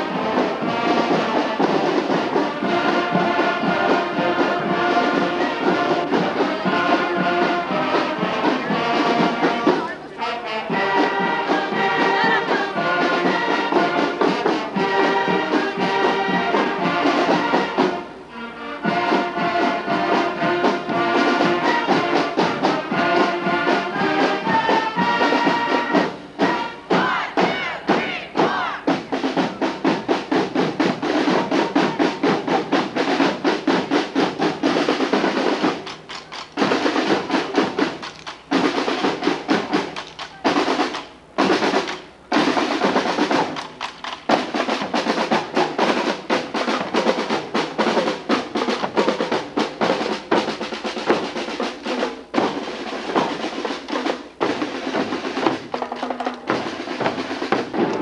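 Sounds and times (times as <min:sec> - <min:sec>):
snare drum strokes and rolls: 0:00.0 - 0:58.0.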